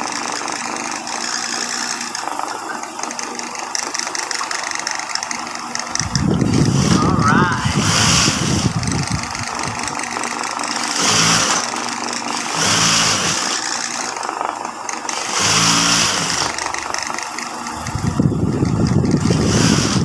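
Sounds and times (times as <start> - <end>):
sewing machine stitching: 0.0 - 20.0.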